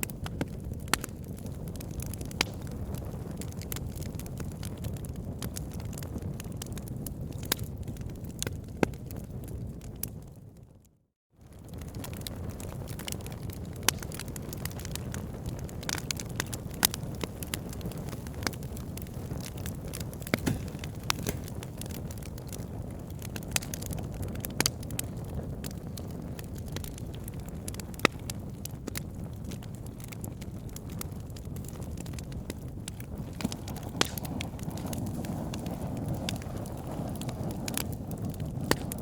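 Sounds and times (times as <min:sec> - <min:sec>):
wood fire crackling: 0:00.0 - 0:10.2, 0:11.4 - 0:39.0.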